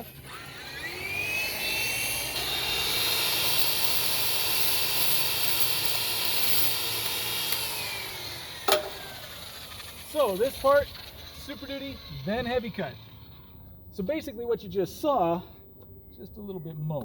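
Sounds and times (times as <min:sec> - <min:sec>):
buffer motor whine: 0:00.0 - 0:14.1.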